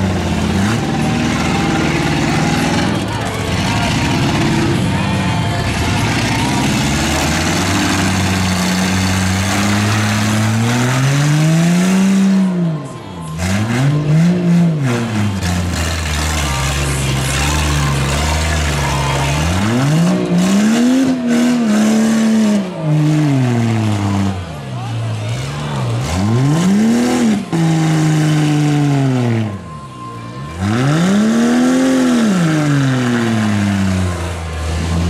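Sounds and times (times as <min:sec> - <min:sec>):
noisy background: 0:00.0 - 0:35.0
truck engines revving hard: 0:00.0 - 0:35.0.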